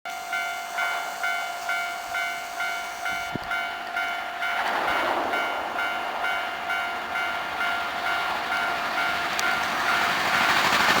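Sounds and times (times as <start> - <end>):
level crossing warning bell: 0.1 - 10.5
train wheels rushing on rails: 0.3 - 11.0.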